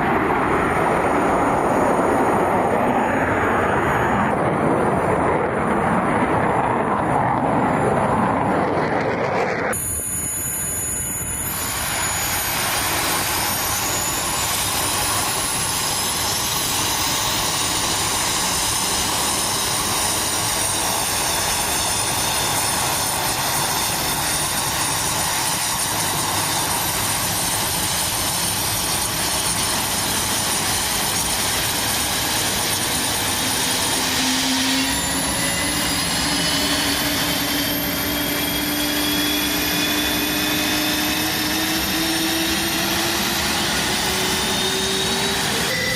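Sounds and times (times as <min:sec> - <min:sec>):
high engine whine: 0:00.0 - 0:45.9
turboprop engines running: 0:00.0 - 0:45.9.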